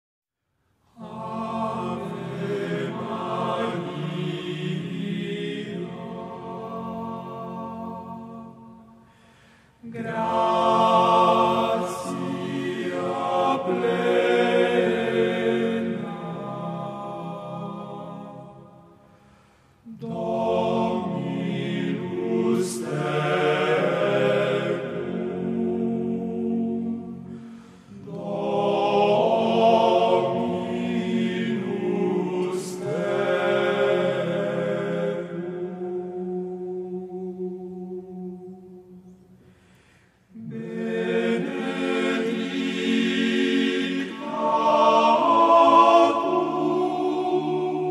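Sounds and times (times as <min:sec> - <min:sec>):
choir singing slow chant: 0:00.8 - 0:47.9.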